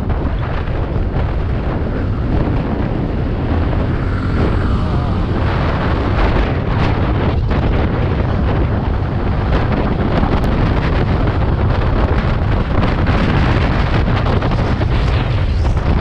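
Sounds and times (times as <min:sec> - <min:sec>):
scooter engine and road noise: 0:00.0 - 0:16.0
wind buffeting microphone: 0:00.0 - 0:16.0.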